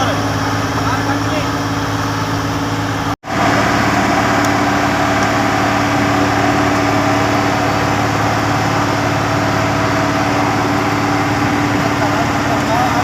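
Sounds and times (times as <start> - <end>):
heavy machine engine humming: 0.0 - 13.0.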